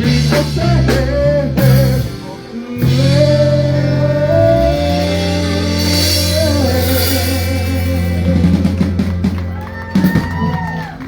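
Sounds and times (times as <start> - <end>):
singer holding a long note: 0.0 - 9.0
live soul band music: 0.0 - 11.0.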